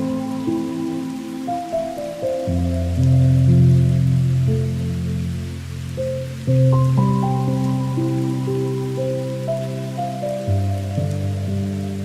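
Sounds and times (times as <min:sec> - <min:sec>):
rain hissing: 0:00.0 - 0:12.0
soft slow background music: 0:00.0 - 0:12.0.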